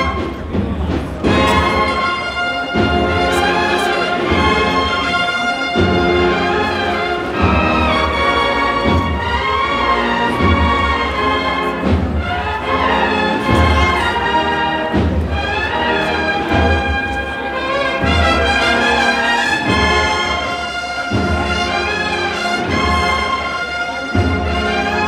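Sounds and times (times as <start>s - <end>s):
brass band playing a slow march: 0.0s - 25.0s.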